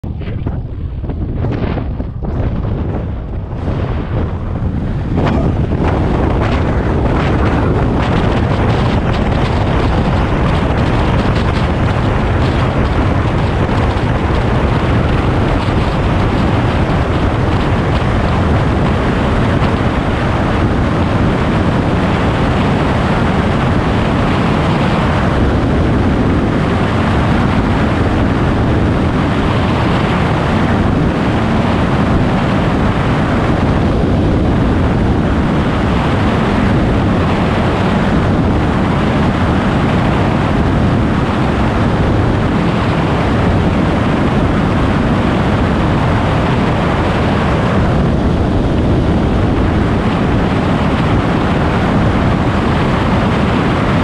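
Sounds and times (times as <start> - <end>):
wheel rolling over runway: 0.0 - 54.0
wind buffeting microphone: 0.0 - 54.0.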